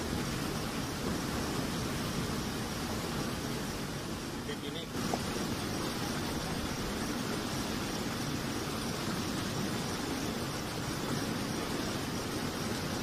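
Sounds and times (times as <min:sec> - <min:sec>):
muddy water rushing: 0:00.0 - 0:13.0.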